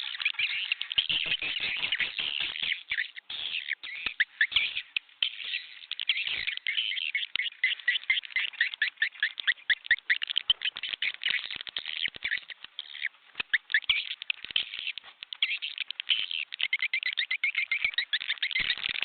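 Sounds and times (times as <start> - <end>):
swiftlets twittering: 0.0 - 19.0.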